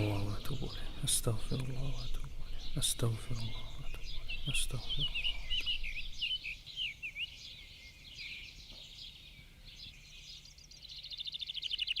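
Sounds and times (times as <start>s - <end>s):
bird rapid trill: 0.0s - 12.0s
birds chirping: 0.0s - 12.0s.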